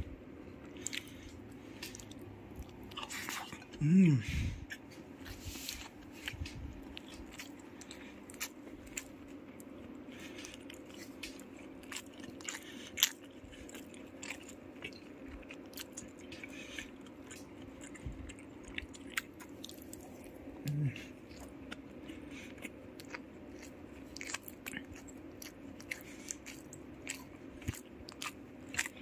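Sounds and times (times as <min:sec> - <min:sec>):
steady low hum: 0:00.0 - 0:29.0
close-up chewing and biting: 0:00.5 - 0:29.0.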